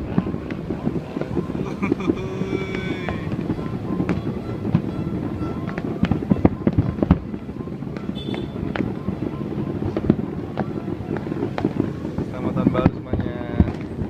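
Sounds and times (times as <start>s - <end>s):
fireworks bangs and cracks: 0.0s - 14.0s
steady rumble: 0.0s - 14.0s.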